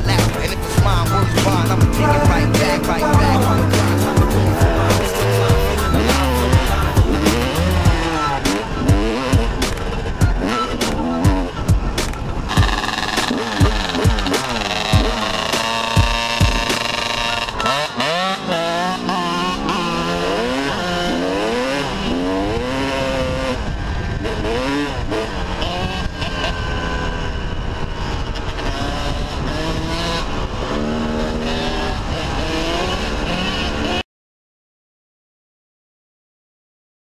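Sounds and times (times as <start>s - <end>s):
motocross bike engine revving: 0.0s - 34.0s.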